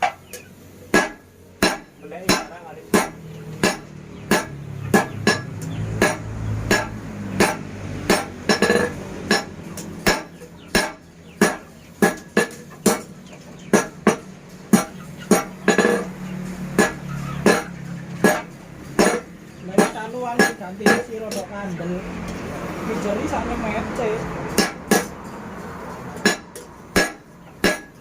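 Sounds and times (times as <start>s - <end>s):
hammer striking iron on anvil: 0.0s - 13.1s, 13.7s - 16.1s, 16.7s - 21.5s, 24.5s - 25.1s, 26.2s - 28.0s.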